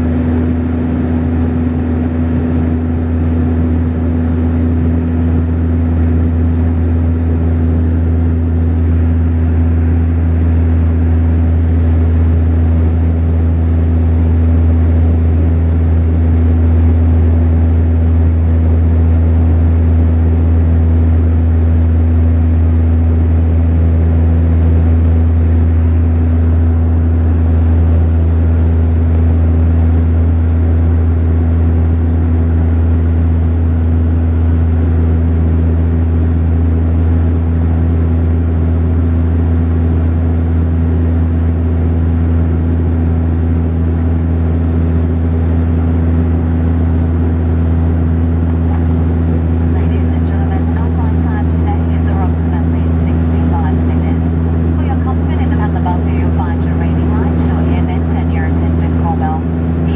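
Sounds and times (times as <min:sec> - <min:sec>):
steady higher engine tone: 0:00.0 - 0:59.9
turboprop cabin drone: 0:00.0 - 0:59.9.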